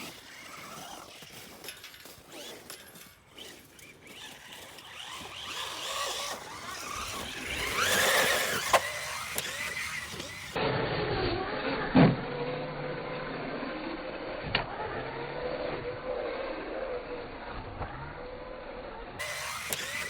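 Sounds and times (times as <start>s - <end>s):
toy truck electric motor whining: 0.0s - 20.0s.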